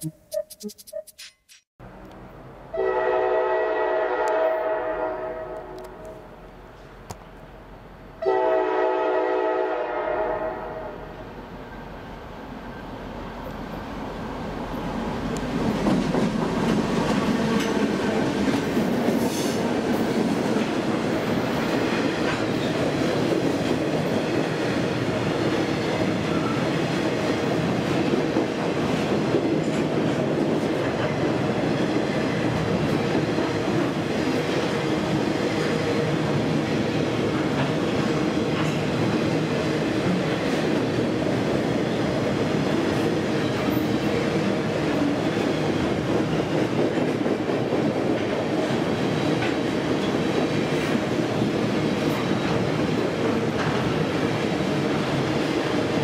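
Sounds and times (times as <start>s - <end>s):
train wheels rumbling on track: 8.4s - 56.0s.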